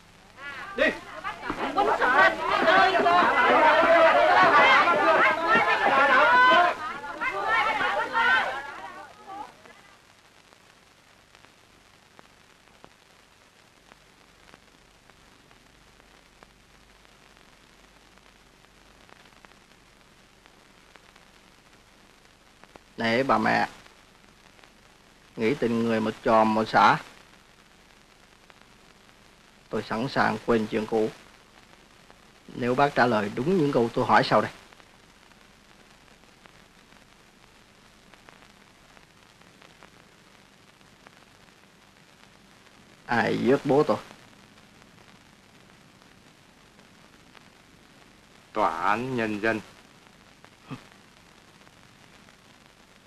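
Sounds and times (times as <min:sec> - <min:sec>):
film soundtrack hiss: 0:00.0 - 0:53.0.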